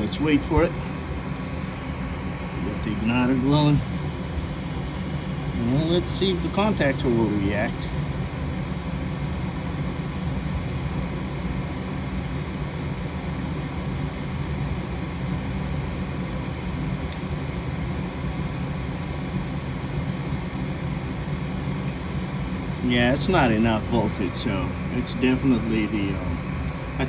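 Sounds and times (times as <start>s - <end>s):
heater fan motor humming: 0.0s - 27.0s.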